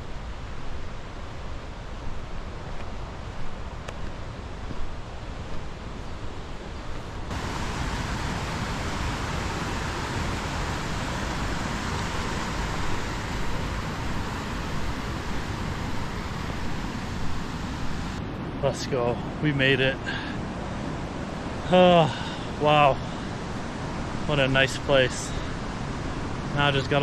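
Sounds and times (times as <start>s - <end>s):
steady rushing noise: 0.0s - 27.0s.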